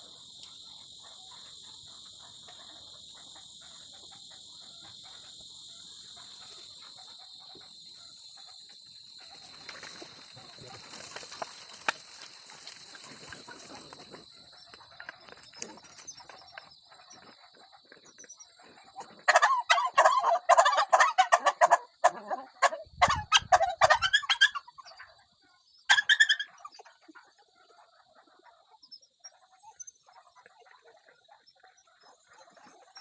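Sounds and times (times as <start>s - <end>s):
chickens clucking: 0.0s - 33.0s.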